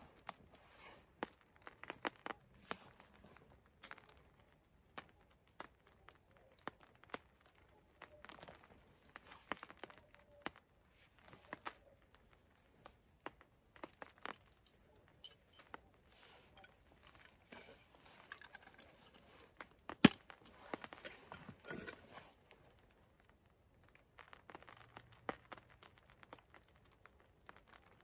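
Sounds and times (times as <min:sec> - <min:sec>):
crinkly rustles: 0:00.0 - 0:28.0.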